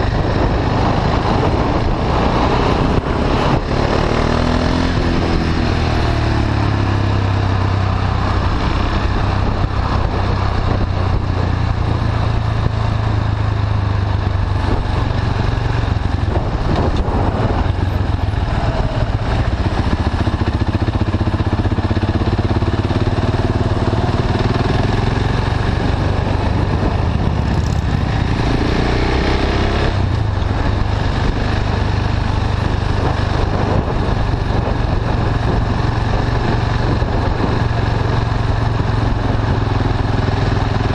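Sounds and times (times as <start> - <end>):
motorcycle engine at low revs: 0.0 - 40.9.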